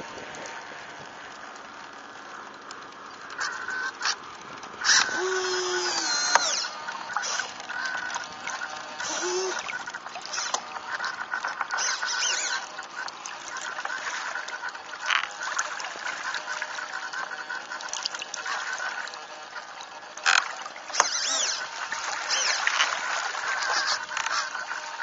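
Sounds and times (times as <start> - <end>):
water rushing against hull: 0.0 - 25.0.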